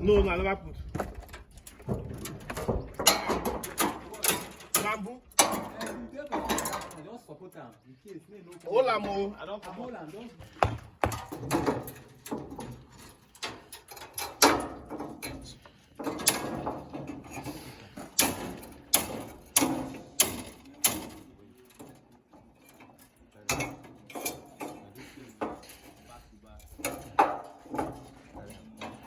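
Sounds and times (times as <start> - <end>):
tool knocks and clanks: 1.0 - 7.0, 10.5 - 26.0, 26.8 - 29.0.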